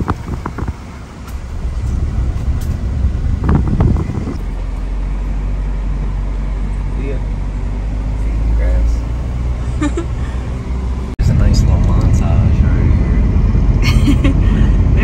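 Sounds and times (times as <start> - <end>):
wind rumble through open window: 0.0 - 8.0, 10.4 - 15.0
engine and tyres humming: 0.0 - 15.0
road rumble: 0.0 - 15.0.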